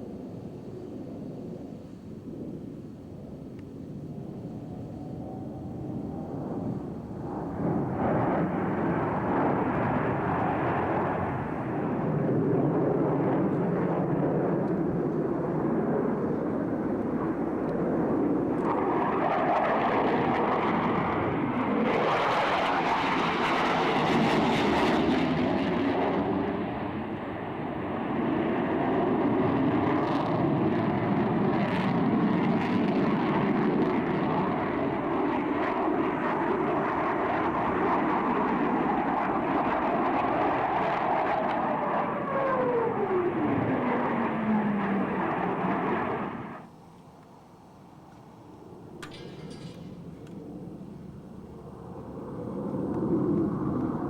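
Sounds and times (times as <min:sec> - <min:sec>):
fighter jets passing: 0:00.0 - 0:46.8, 0:47.4 - 0:54.0.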